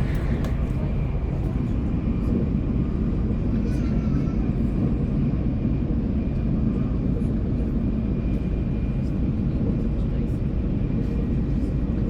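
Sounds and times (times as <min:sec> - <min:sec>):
train rumbling at speed: 0:00.0 - 0:12.0.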